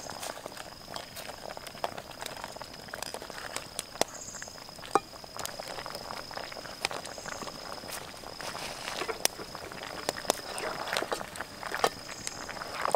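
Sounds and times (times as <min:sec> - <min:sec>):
low sizzle: 0:00.0 - 0:12.9.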